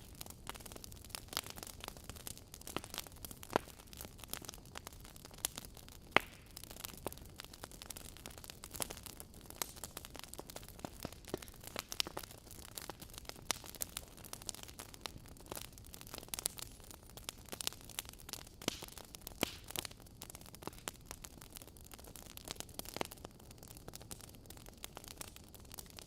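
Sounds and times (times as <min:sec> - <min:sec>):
sharp fire pops: 0:00.0 - 0:21.4
wood fire crackling: 0:00.0 - 0:26.0.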